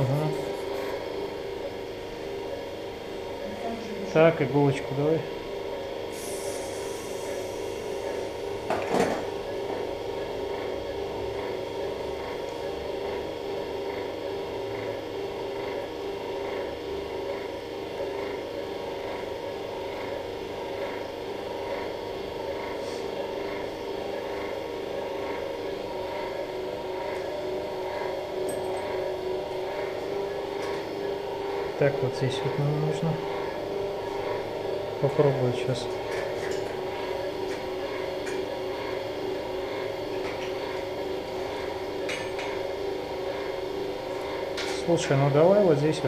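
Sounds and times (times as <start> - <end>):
medical equipment hum: 0.0 - 46.0.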